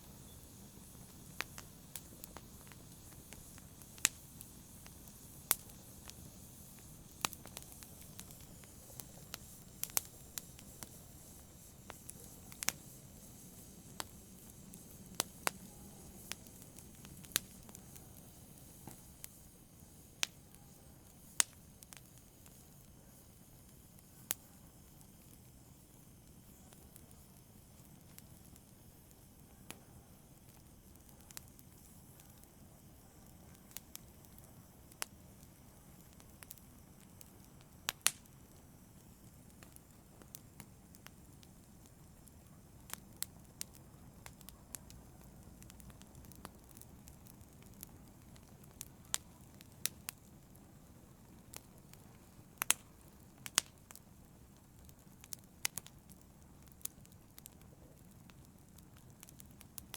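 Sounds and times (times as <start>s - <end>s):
low rumble of flames: 0.0s - 59.9s
wood fire pops and crackles: 0.0s - 59.9s.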